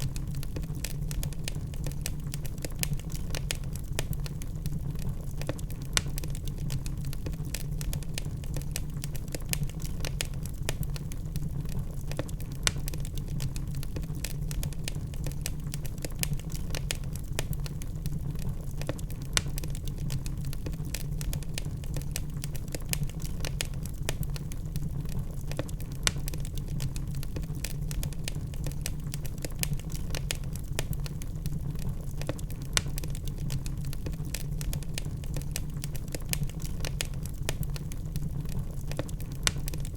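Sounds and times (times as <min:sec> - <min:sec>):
low rumble of fire: 0:00.0 - 0:39.9
wood fire crackling: 0:00.0 - 0:39.9.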